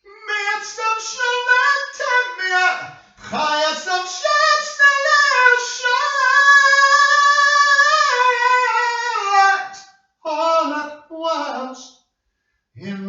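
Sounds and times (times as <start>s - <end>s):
person singing unaccompanied: 0.0s - 11.8s.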